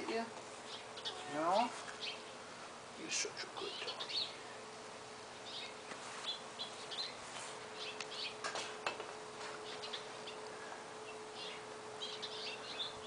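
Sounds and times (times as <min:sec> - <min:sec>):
faint steady hum: 0:00.0 - 0:13.0
songbirds chirping: 0:00.0 - 0:13.0.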